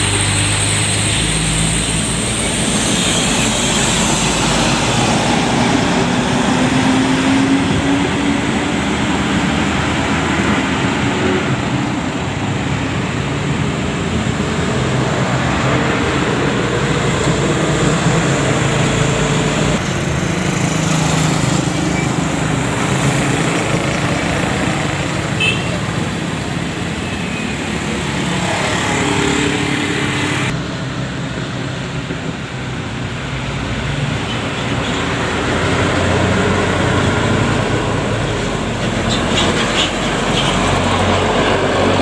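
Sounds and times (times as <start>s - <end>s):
heavy vehicle engine accelerating: 0.0s - 42.0s
traffic and tyre noise: 0.0s - 42.0s.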